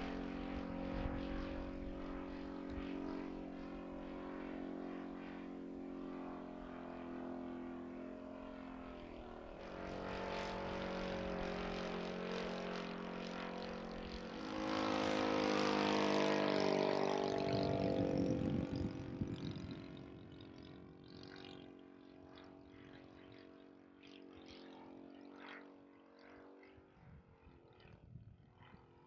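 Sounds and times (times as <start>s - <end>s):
model plane engine droning: 0.0s - 29.0s.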